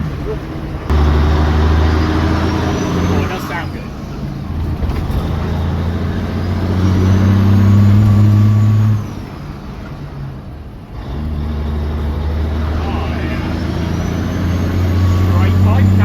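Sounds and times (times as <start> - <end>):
diesel lorry engine revving: 0.0 - 16.0.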